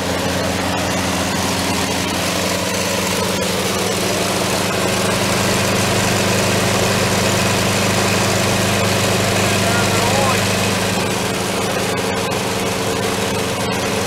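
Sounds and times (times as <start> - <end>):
lawn mower engines humming: 0.0 - 14.0.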